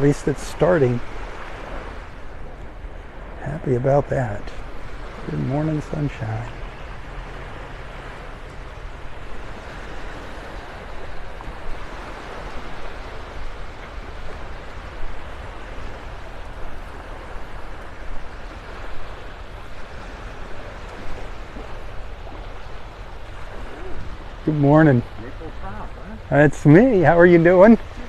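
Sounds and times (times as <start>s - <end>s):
gentle surf washing onto beach: 0.0s - 28.0s.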